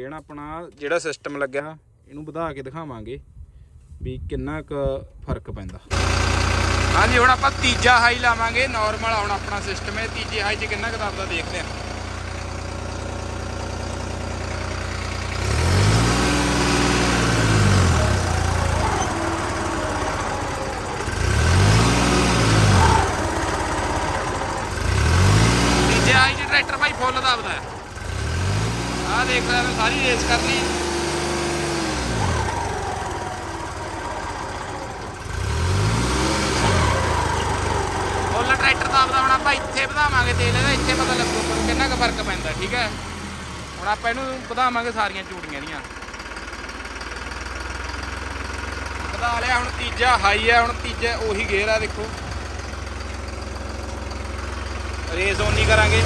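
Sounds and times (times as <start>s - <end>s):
tractor diesel engine running: 5.9s - 56.0s.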